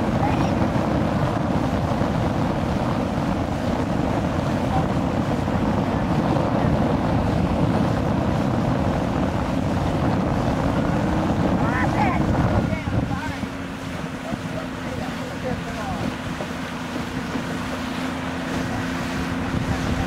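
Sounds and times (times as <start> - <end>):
outboard motor running: 0.0 - 20.0
rushing water: 0.0 - 20.0
wind noise on microphone: 0.0 - 20.0.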